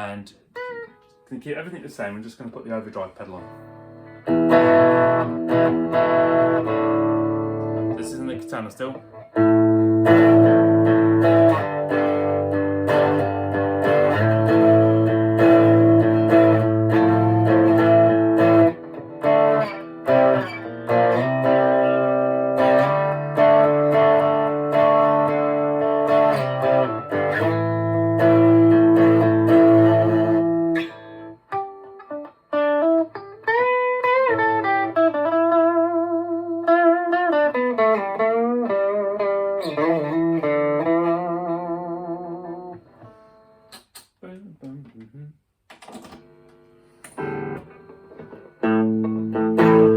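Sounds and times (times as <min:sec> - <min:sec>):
distorted electric guitar: 0:03.4 - 0:49.9.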